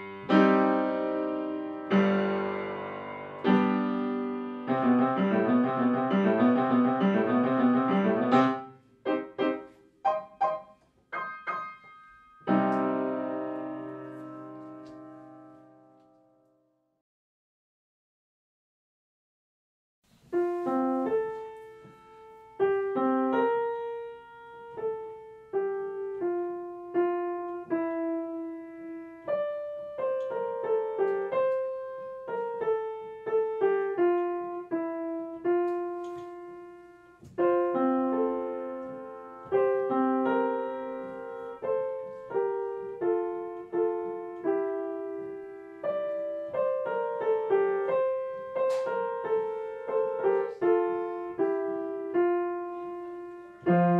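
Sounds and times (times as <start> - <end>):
solo piano melody: 0.0 - 16.8, 20.1 - 53.9.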